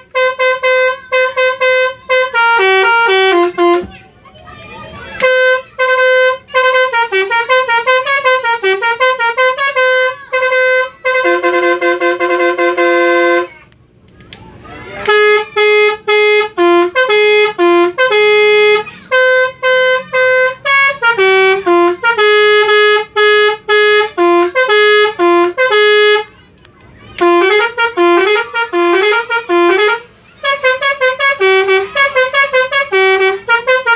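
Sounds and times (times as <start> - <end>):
multi-tone bus horn melody: 0.0 - 13.7, 14.6 - 33.9.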